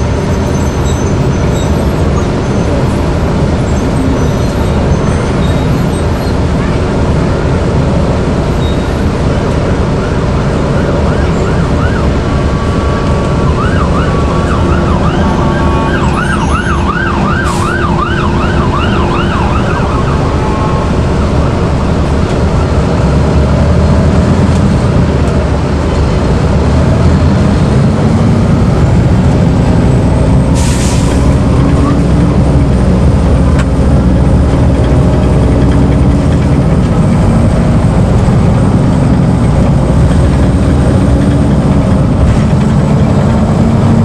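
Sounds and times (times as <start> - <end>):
bus engine droning: 0.0 - 44.0
emergency vehicle siren: 0.0 - 44.0.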